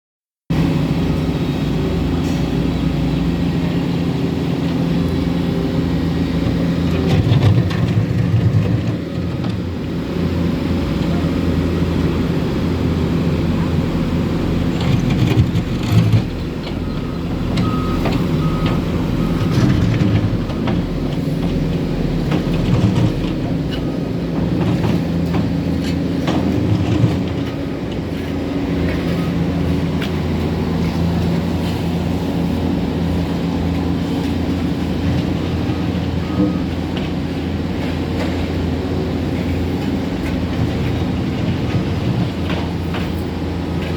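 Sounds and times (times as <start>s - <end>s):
heavy diesel machinery running: 0.5s - 43.9s.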